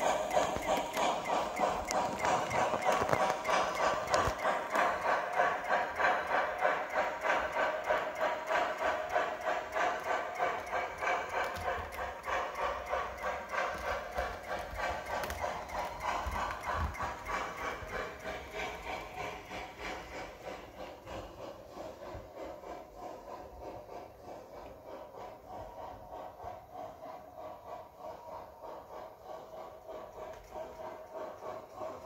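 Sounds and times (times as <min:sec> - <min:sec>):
model steam locomotive chuffing: 0:00.0 - 0:32.0.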